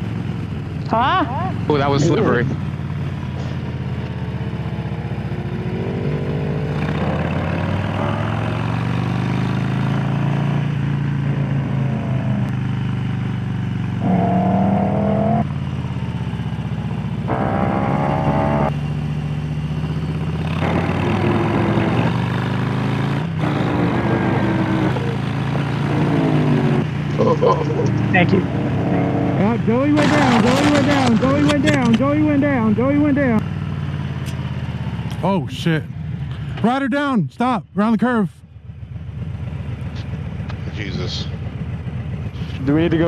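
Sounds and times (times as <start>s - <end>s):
motorcycle engine accelerating: 0.0s - 43.0s.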